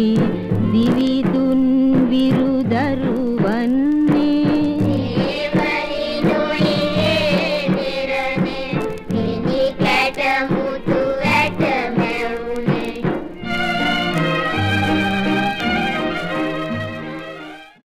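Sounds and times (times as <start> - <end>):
song with singing and drum beat: 0.0 - 14.4.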